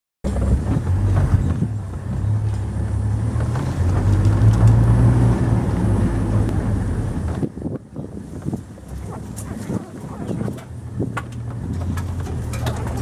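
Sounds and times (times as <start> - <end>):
vehicle engine humming: 0.2 - 13.0.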